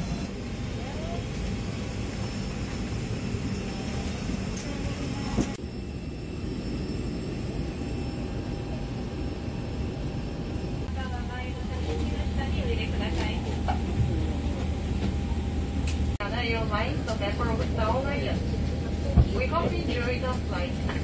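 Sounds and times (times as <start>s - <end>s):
airliner cabin hum: 0.0s - 21.0s.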